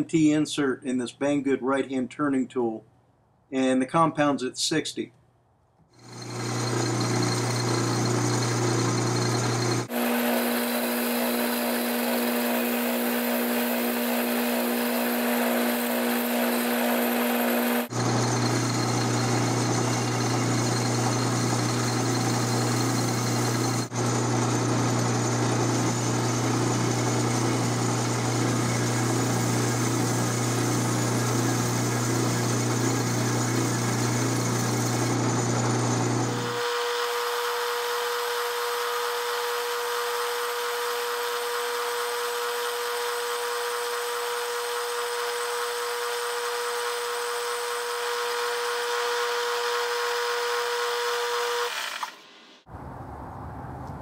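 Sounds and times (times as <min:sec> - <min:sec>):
metal lathe machining: 0:06.0 - 0:49.7.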